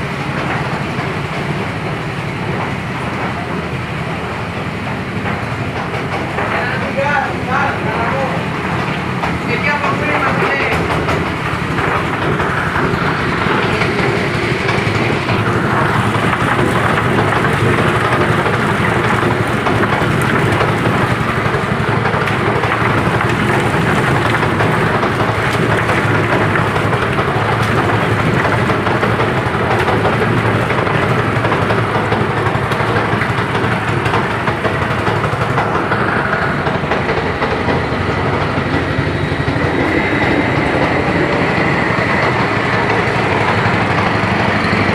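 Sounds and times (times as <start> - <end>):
feather plucking machine running: 0.0 - 44.9.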